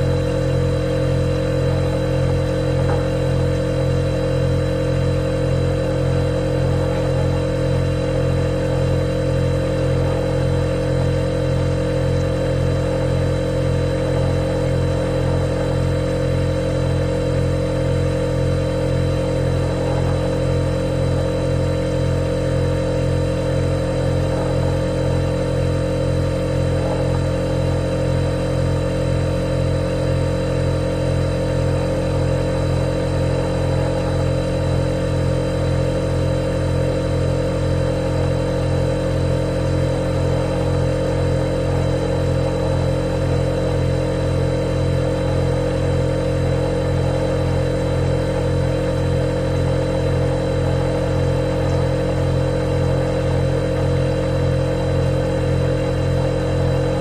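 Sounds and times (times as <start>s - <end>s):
refrigerator compressor humming: 0.0s - 57.0s.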